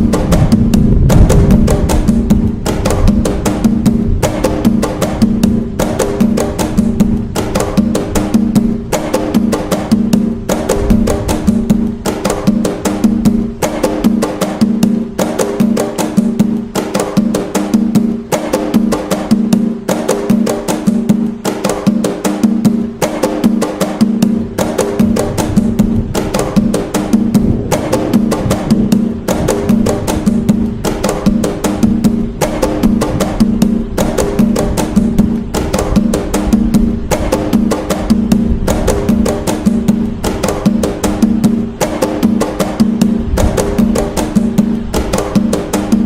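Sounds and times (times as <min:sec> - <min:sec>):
hand drums playing fast rhythm: 0:00.0 - 0:46.0.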